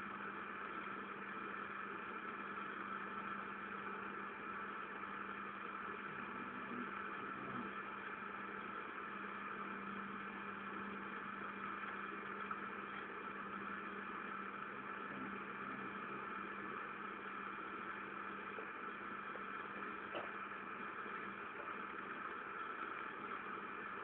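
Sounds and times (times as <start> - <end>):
milling machine humming: 0.0 - 24.0.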